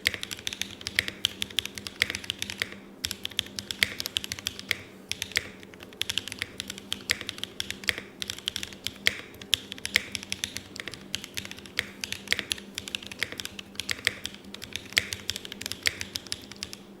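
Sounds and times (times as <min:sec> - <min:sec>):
mechanical keyboard typing: 0:00.0 - 0:16.9.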